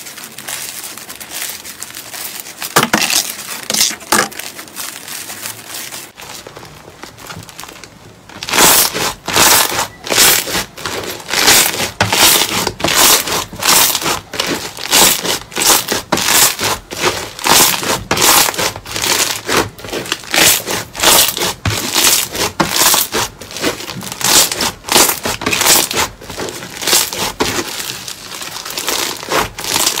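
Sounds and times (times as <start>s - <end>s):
slime crackling and crunching: 0.0s - 30.0s.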